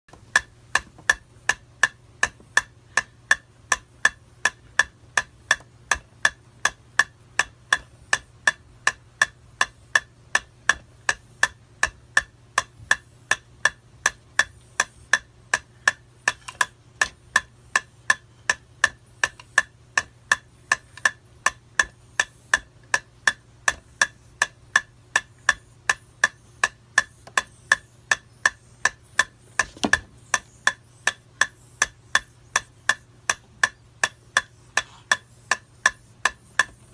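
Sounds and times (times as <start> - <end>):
metronome ticking: 0.1 - 36.9.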